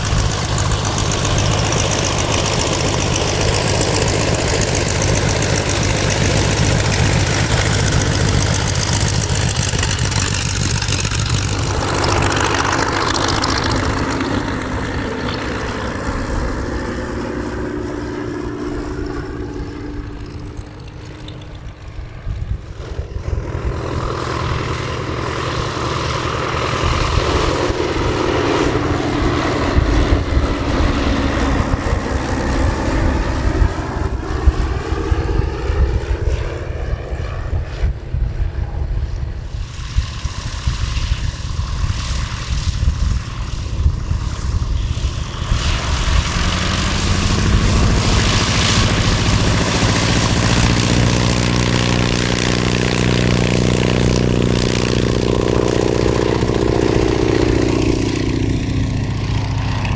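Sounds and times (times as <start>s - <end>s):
propeller plane flying by: 0.0s - 59.9s.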